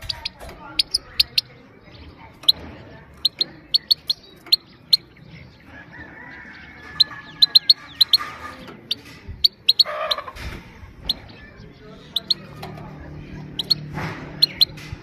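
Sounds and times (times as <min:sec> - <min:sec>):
goldfinch pit calls: 0:00.0 - 0:02.6, 0:03.2 - 0:10.4, 0:11.0 - 0:14.8.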